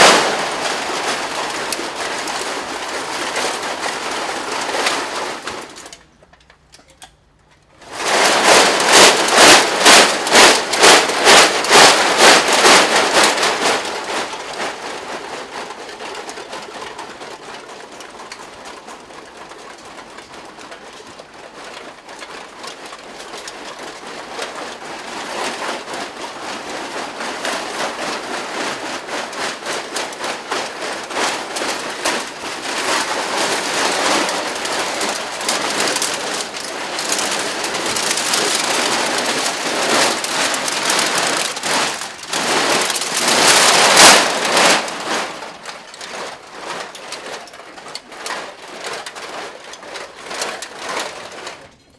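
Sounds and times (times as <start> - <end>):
aluminium cans rattling: 0.0 - 51.9.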